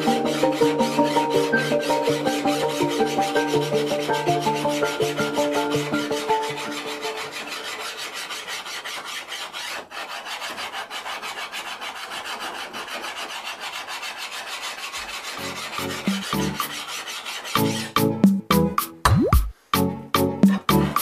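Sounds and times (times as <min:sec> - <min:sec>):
file rasping on steel blade: 0:00.0 - 0:18.1.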